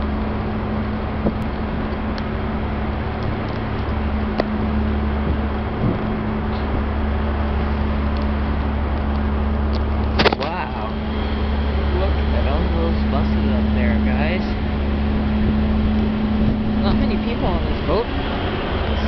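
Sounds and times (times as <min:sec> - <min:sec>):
low engine hum: 0:00.0 - 0:19.0
outdoor background noise: 0:00.0 - 0:19.0.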